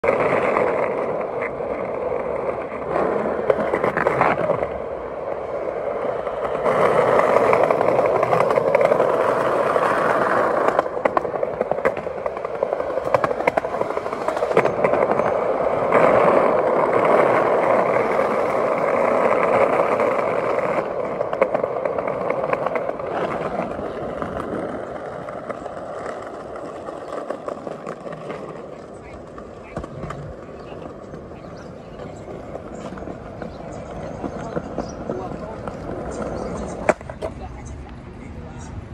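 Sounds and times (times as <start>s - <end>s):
skateboard clacks: 0.0s - 38.0s
skateboard wheels rolling on pavement: 0.0s - 38.9s.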